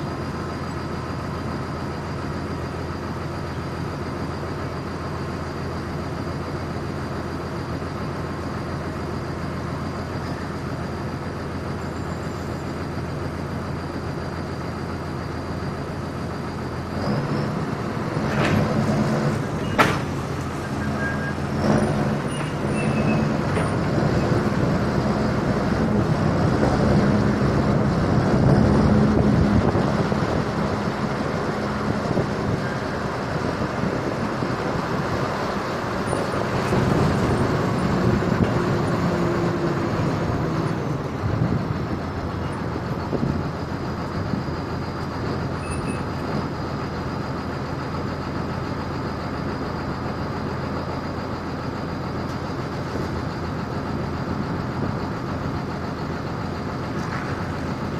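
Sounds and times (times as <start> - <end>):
road and rattle noise: 0.0 - 57.9
truck engine running: 0.0 - 57.9.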